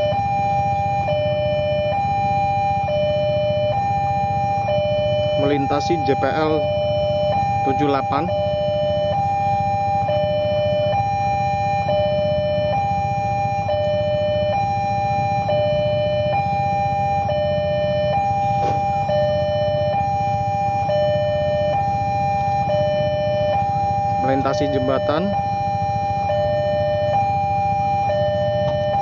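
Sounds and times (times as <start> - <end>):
level-crossing two-tone alarm: 0.0 - 29.0.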